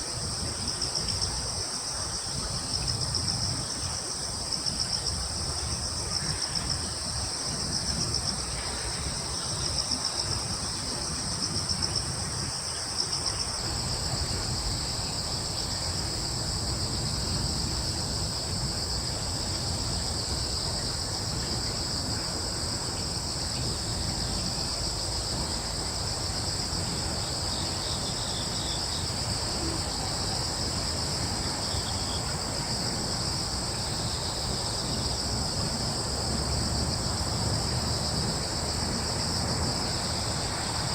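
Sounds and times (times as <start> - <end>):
crickets chirring: 0.0 - 40.9.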